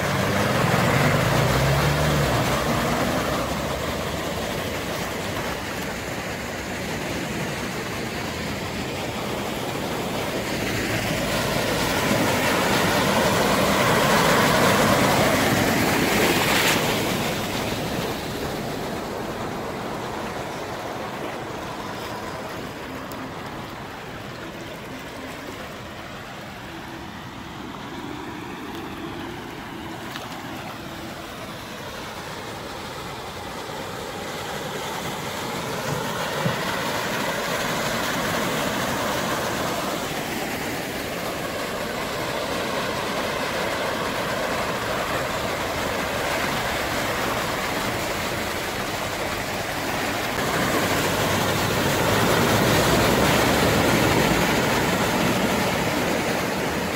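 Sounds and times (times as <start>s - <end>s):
engine noise: 0.0s - 56.9s
vehicles splashing through water: 0.0s - 56.9s.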